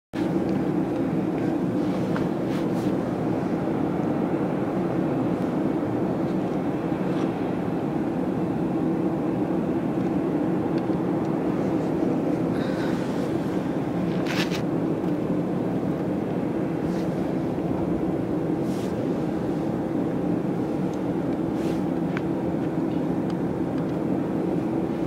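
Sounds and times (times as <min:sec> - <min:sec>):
parked airliner mechanical drone: 0:00.1 - 0:25.0.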